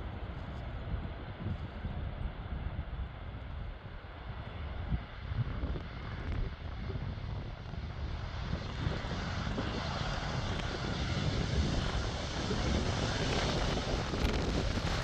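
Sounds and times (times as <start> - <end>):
airliner jet engines rushing: 0.0 - 15.0.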